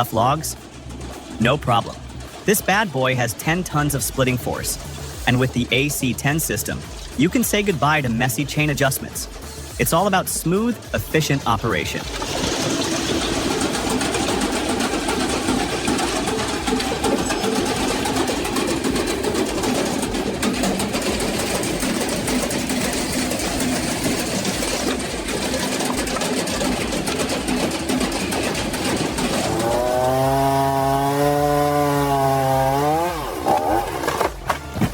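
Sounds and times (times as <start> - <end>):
fine continuous rattle: 0.0 - 32.0
machinery engine hum: 0.0 - 34.9.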